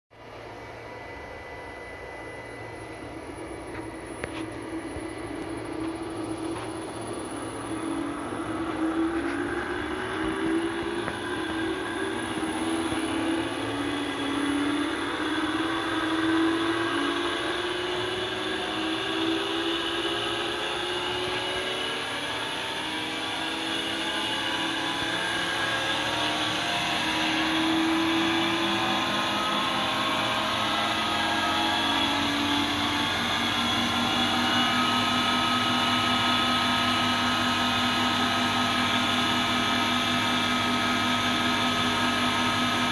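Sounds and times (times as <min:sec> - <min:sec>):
electric motor humming and whining: 0:00.2 - 0:42.9.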